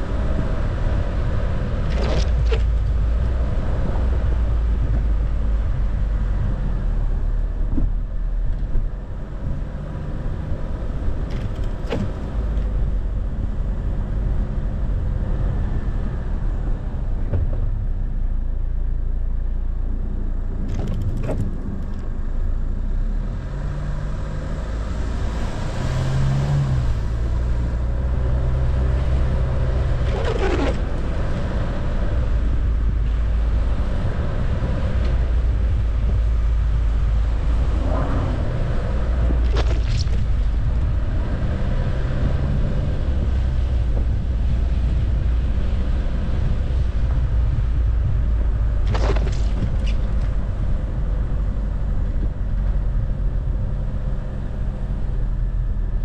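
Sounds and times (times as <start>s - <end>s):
car and tyres rumbling on snow: 0.0s - 56.0s.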